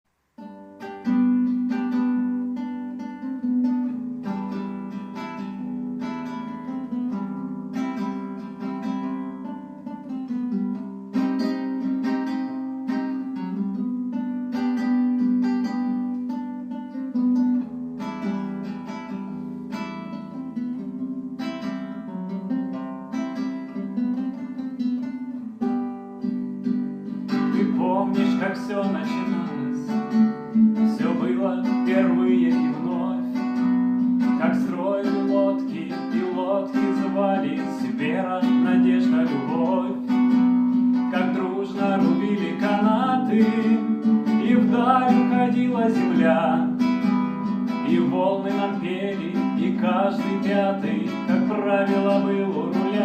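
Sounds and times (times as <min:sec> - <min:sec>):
acoustic guitar strumming chords: 0:00.2 - 0:53.0.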